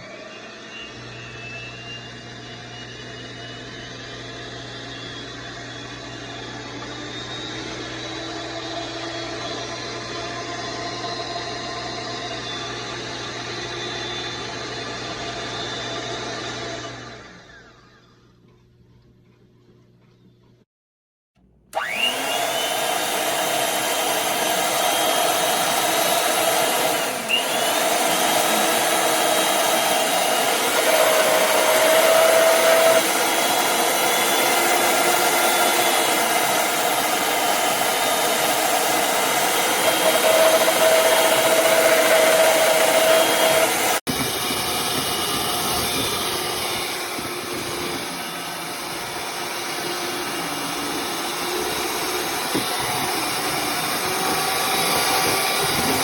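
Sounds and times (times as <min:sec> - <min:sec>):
electric hand mixer whining: 0:00.0 - 0:18.4, 0:21.7 - 0:56.0.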